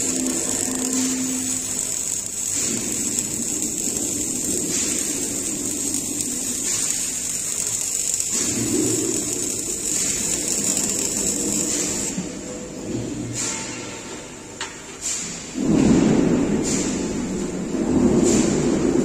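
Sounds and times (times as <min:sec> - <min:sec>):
arc welding hiss: 0:00.0 - 0:14.4, 0:15.0 - 0:19.0.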